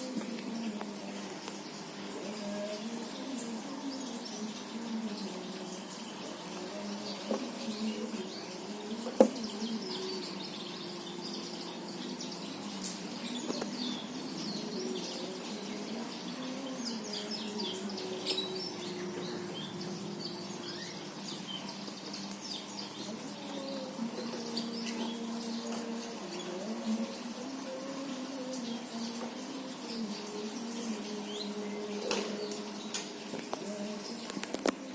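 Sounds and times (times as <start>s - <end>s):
bird chirping: 5.0s - 33.0s.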